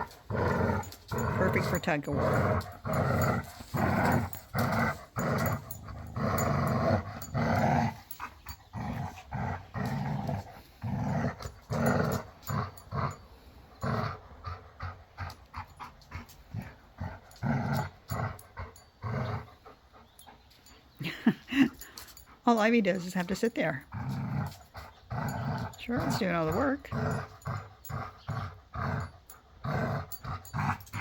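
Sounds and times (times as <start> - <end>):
dog play growling: 0.0 - 31.0.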